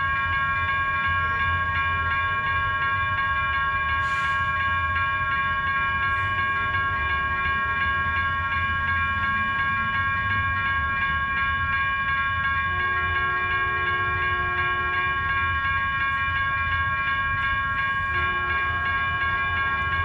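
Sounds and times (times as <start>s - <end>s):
crossing warning bells ringing: 0.0s - 20.0s
train rumbling: 0.0s - 20.0s.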